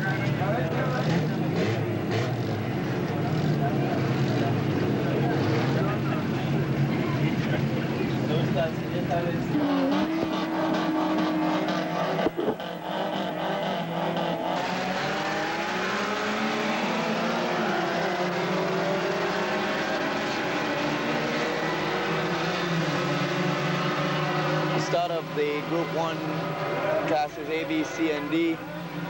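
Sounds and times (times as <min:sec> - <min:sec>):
racing car engines: 0:00.0 - 0:29.0.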